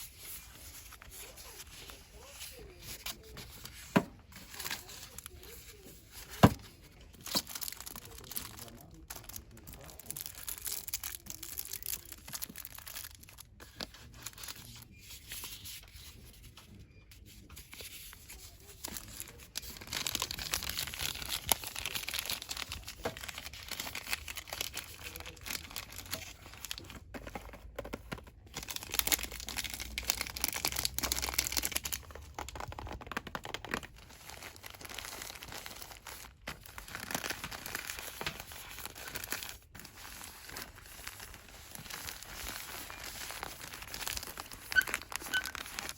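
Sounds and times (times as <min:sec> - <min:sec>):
packaging rustling and crinkling: 0:00.0 - 0:45.9.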